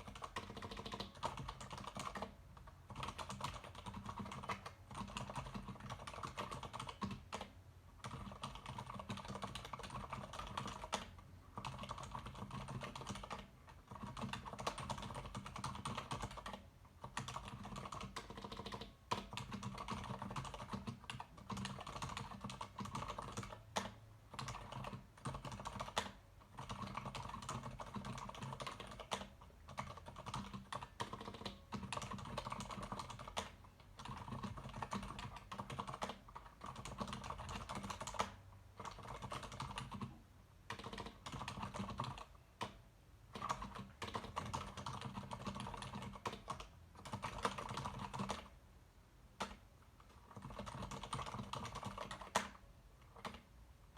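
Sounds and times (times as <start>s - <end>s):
typing on mechanical keyboard: 0.0s - 48.5s, 49.4s - 53.5s.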